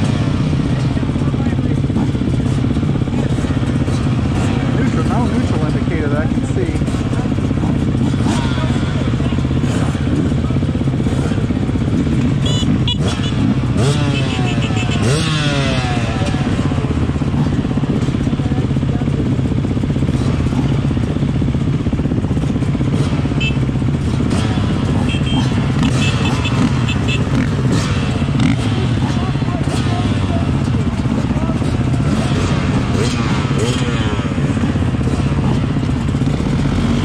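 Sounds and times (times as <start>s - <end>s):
dirt bike engines idling: 0.0s - 37.0s
dirt bike engines revving: 0.0s - 37.0s.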